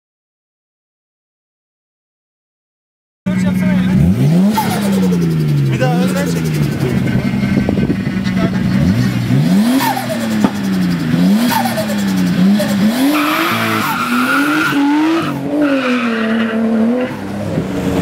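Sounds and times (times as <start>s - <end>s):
car engine revving: 3.3s - 18.0s.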